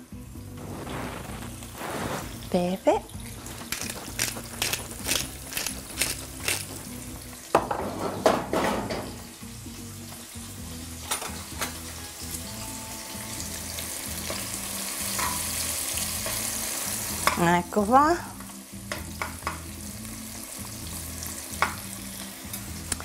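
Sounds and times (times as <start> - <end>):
onion sizzling in oil: 0.0 - 23.0.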